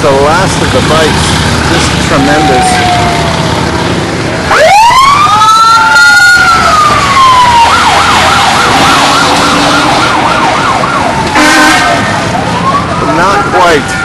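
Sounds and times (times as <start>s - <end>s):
low vehicle engine: 0.0s - 14.0s
emergency siren wailing and yelping: 2.0s - 3.7s, 4.4s - 14.0s.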